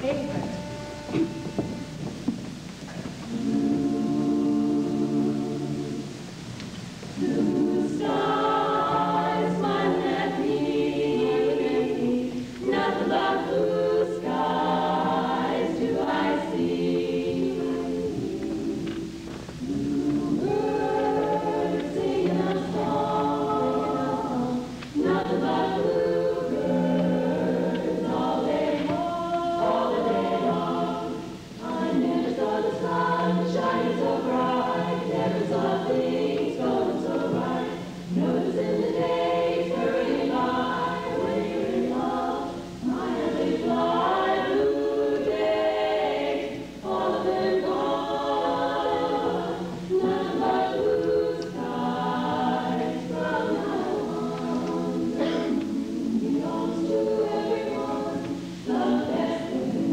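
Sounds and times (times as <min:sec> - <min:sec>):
women's chorus singing a cappella: 0:03.3 - 0:06.5, 0:07.1 - 0:59.9.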